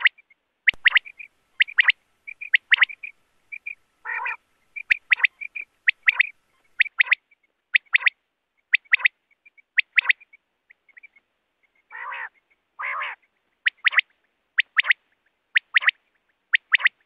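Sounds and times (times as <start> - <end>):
quail calling: 0.0 - 17.0
rough low bird calls: 0.0 - 17.0.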